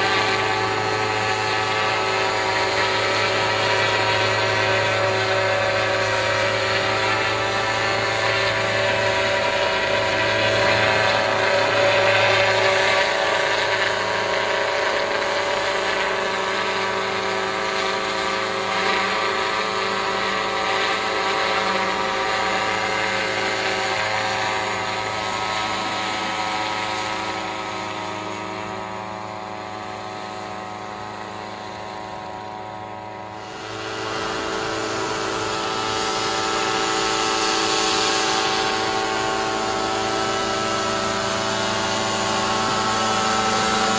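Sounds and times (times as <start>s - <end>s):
small helicopter engine and rotor: 0.0s - 43.9s.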